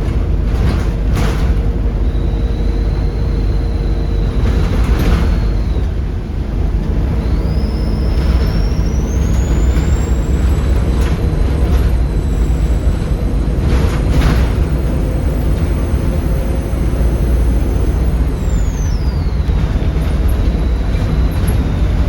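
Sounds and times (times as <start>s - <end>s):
diesel bus engine under load: 0.0s - 22.0s
turbocharger whistle: 1.9s - 6.1s, 7.1s - 22.0s.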